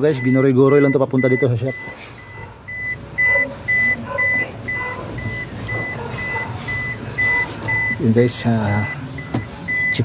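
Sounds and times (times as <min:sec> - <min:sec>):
electronic beeper beeping: 0:00.1 - 0:08.0, 0:08.8 - 0:10.0.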